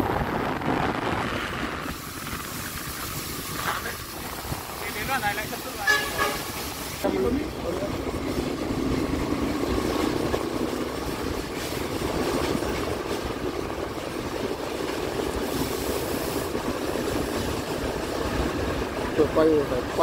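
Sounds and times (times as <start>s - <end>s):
locomotive engine and rail noise: 0.0s - 20.0s.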